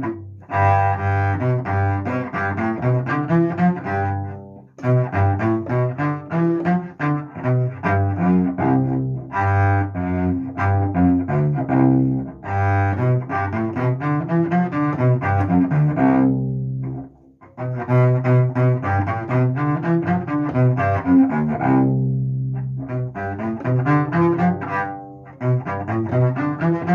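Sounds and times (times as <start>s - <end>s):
bowed cello notes: 0.0s - 26.9s.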